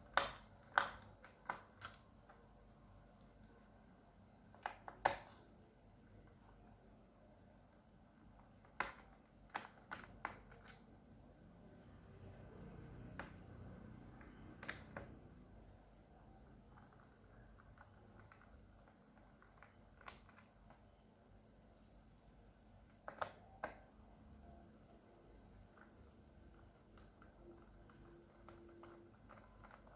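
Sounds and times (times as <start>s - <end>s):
faint background hum: 0.0s - 29.9s.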